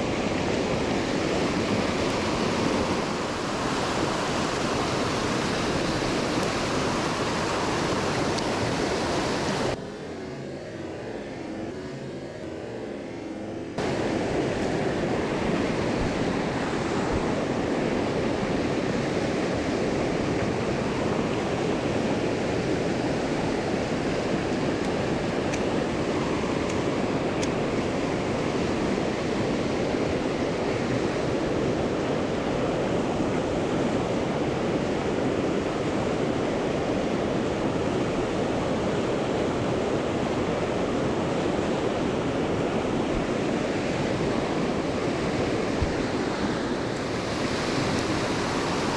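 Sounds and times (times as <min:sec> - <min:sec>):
stream water rushing over rocks: 0:00.0 - 0:09.8, 0:13.8 - 0:48.9.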